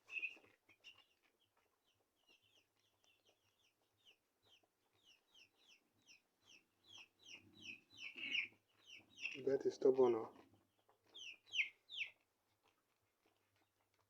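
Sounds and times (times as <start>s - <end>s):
chicken peeping: 0.0s - 14.0s.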